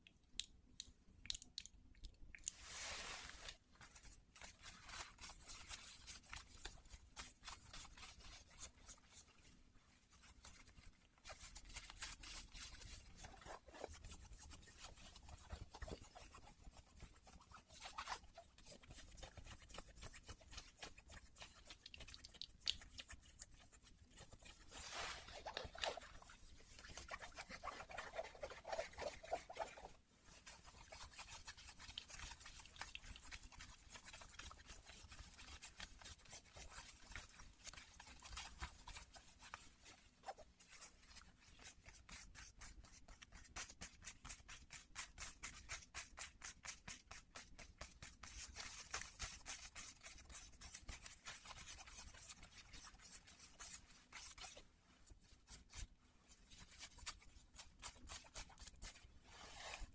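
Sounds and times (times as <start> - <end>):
denim scratching and rubbing: 2.6 - 44.7, 47.4 - 59.9.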